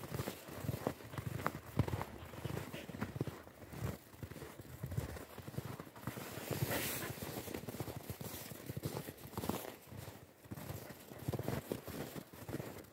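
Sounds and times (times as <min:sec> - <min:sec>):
footsteps crunching in snow: 0:00.0 - 0:12.9.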